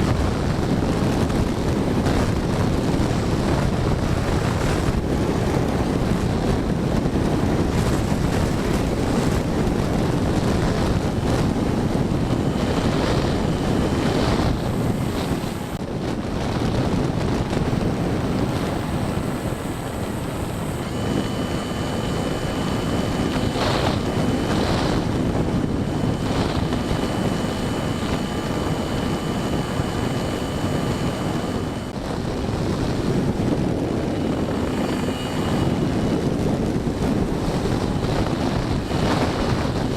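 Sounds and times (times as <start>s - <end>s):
electric motor and propeller whine: 0.0s - 39.9s
wind rushing over camera: 0.0s - 39.9s.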